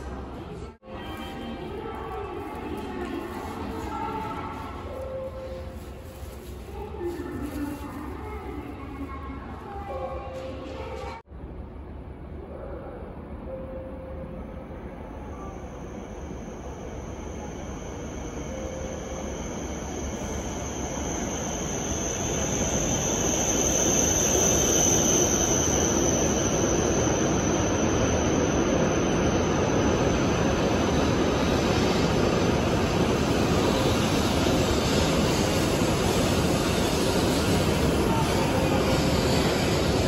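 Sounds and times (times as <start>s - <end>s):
train running noise: 0.0s - 40.0s.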